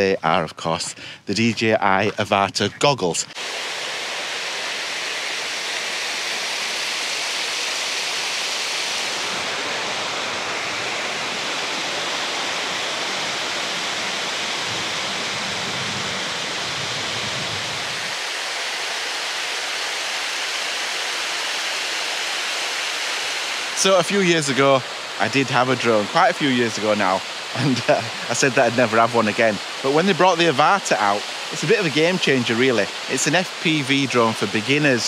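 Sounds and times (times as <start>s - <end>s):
water rushing down stone cascade: 3.3s - 35.0s.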